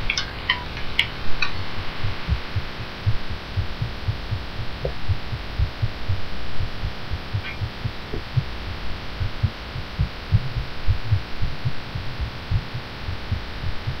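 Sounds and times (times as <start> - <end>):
constant hum: 0.0 - 14.0
fast heartbeat thumps: 1.8 - 14.0.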